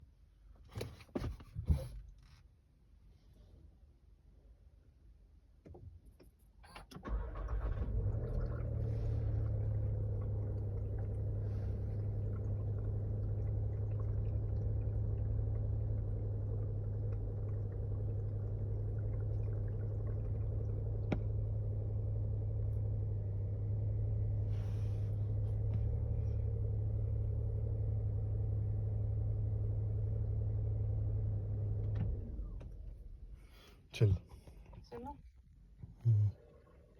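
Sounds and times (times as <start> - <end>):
car engine starting and idling: 5.6 - 36.9.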